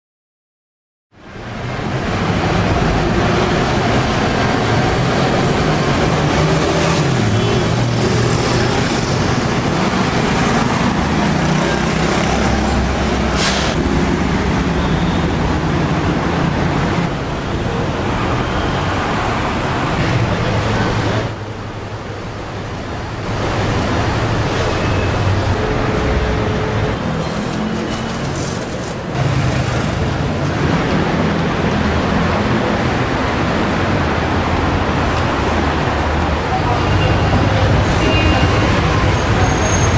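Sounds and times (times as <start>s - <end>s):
city street traffic: 1.1s - 39.9s.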